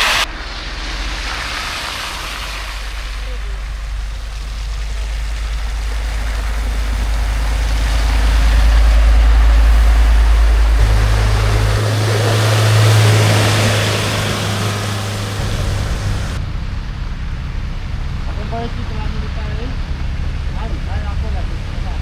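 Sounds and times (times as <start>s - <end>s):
heavy vehicle engines: 0.0s - 22.0s
road noise hiss: 0.0s - 22.0s.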